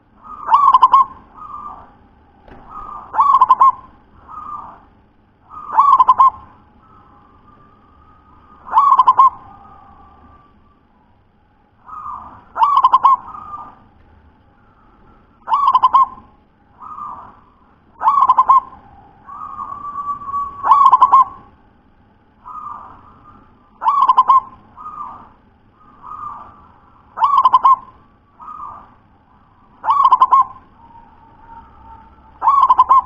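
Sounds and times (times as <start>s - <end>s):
dove singing: 0.0s - 21.7s, 22.3s - 33.0s.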